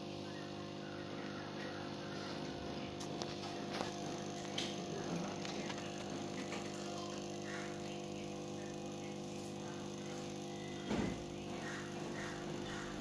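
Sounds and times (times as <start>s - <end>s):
air pump humming: 0.0s - 13.0s.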